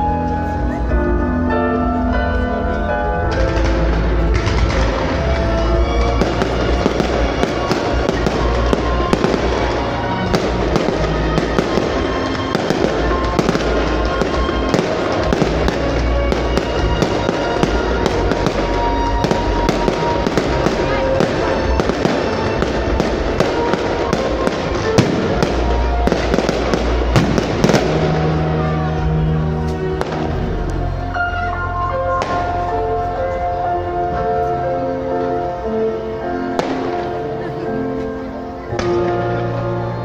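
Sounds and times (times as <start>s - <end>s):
music soundtrack: 0.0s - 40.0s
fireworks bursting and crackling: 3.2s - 33.5s, 36.3s - 40.0s.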